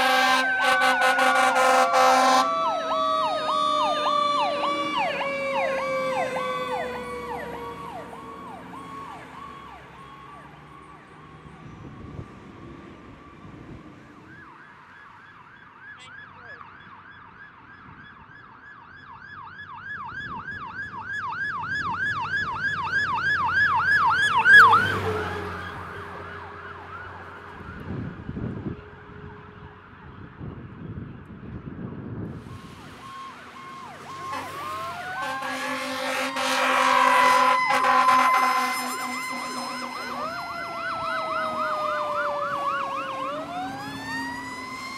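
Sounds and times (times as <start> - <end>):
siren wailing: 0.0 - 12.3, 13.2 - 30.4, 32.3 - 44.9
fire truck sirens yelping: 0.0 - 30.4, 32.3 - 44.9
loud siren burst: 0.0 - 31.0, 32.2 - 44.9.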